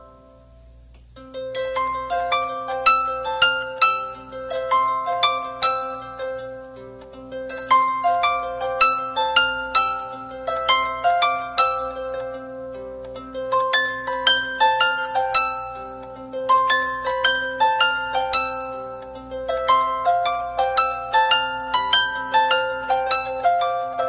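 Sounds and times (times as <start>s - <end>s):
plucked string melody: 0.0s - 24.0s.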